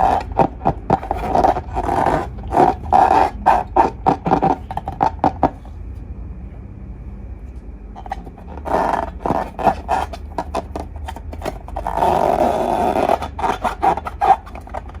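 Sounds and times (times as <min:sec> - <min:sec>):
slime squelching by hand: 0:00.0 - 0:05.7, 0:08.0 - 0:15.0.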